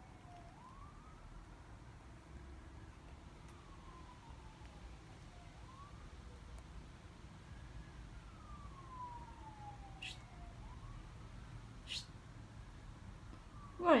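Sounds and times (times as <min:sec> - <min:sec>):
faint siren wailing: 0:00.0 - 0:14.0.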